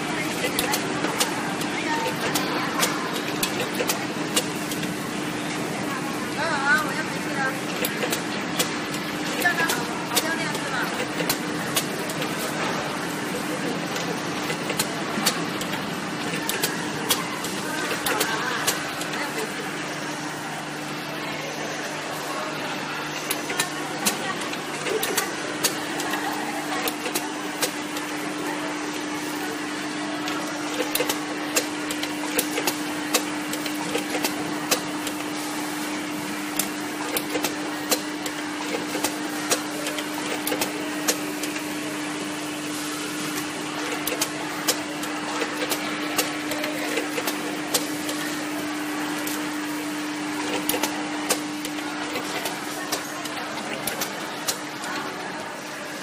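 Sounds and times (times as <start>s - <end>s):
sharp machine clicks: 0.0s - 5.6s, 6.7s - 20.0s, 23.0s - 55.2s
machine humming: 0.0s - 56.0s.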